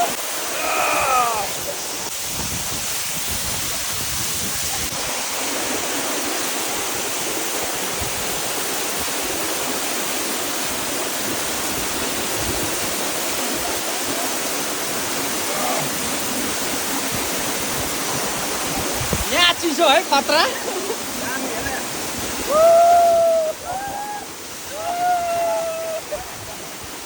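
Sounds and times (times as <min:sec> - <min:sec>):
waterfall rushing and splashing: 0:00.0 - 0:27.0.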